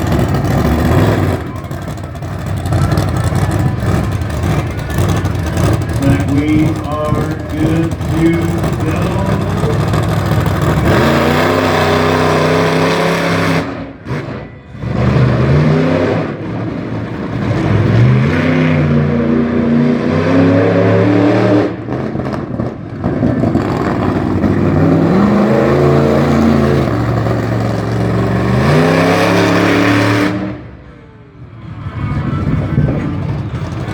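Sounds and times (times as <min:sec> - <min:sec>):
truck engine revving hard: 0:00.0 - 0:30.8.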